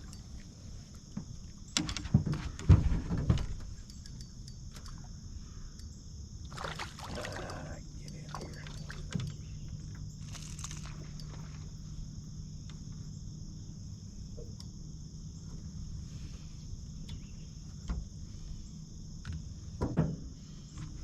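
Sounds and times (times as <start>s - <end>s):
crickets chirping: 0.0s - 21.0s
low steady hum: 3.3s - 21.0s.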